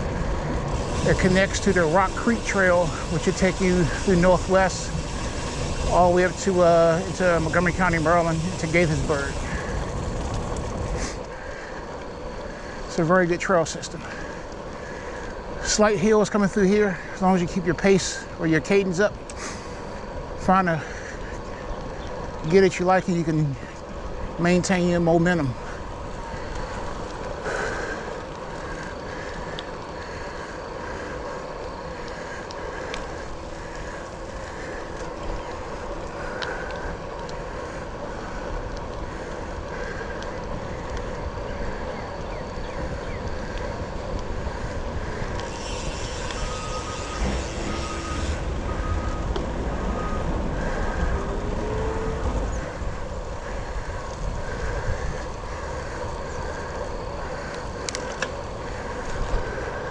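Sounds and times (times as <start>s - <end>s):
wind buffeting microphone: 0.0s - 12.9s, 19.1s - 59.9s
bicycle tyres on wet pavement: 0.0s - 59.9s.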